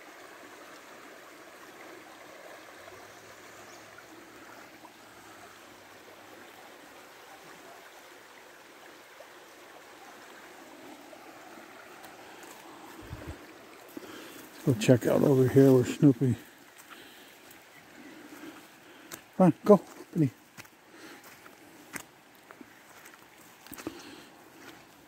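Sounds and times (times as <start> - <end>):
stream rushing: 0.0 - 25.0.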